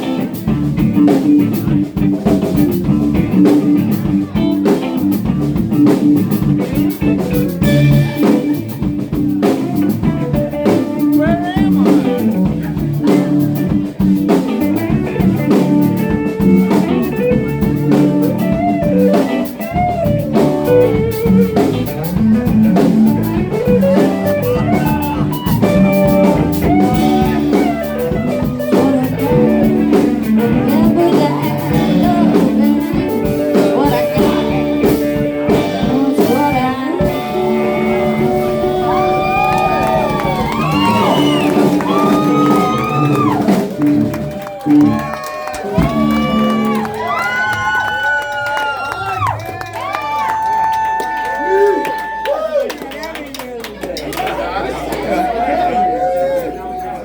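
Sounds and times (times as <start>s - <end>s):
drum kit: 0.0s - 52.2s
lead guitar solo: 0.0s - 52.3s
bass guitar: 0.0s - 53.2s.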